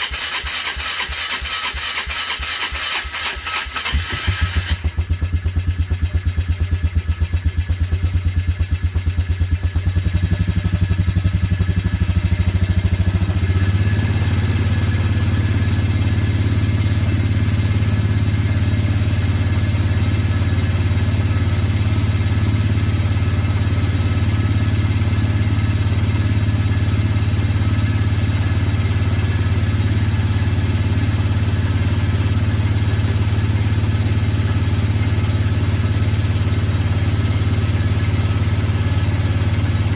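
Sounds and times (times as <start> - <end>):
engine idling after cold start: 0.0 - 39.9.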